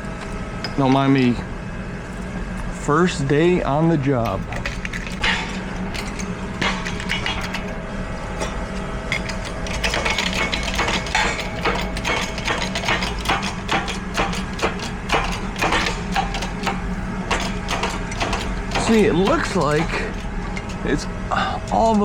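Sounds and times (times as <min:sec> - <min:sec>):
low shop hum: 0:00.0 - 0:22.0.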